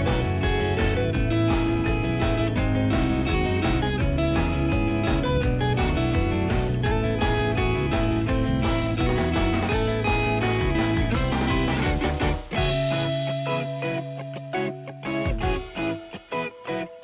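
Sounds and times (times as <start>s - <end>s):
guitar-led background music: 0.0s - 17.0s.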